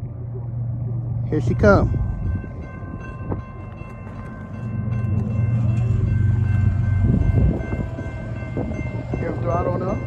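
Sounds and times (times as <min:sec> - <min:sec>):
diesel locomotive engine rumble: 0:00.0 - 0:10.0.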